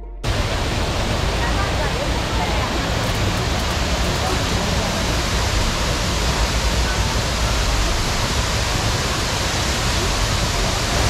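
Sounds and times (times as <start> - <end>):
steady rushing noise with low rumble: 0.2 - 11.0.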